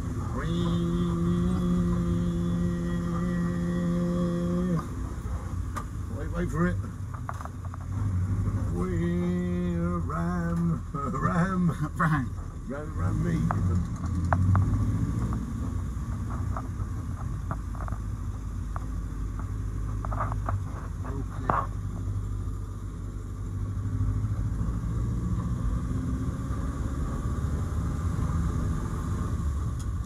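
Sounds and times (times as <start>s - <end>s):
car engine rumble: 0.0s - 30.0s.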